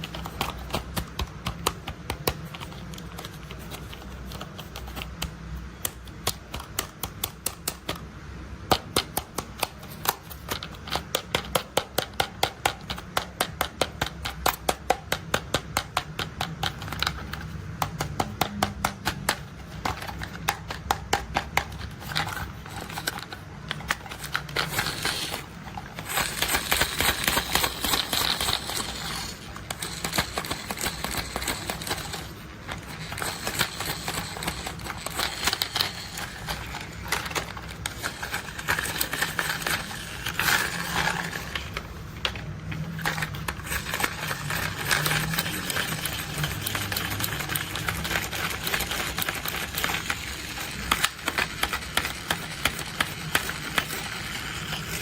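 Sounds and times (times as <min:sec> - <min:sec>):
rapid tapping on plastic toys: 0:00.0 - 0:55.0.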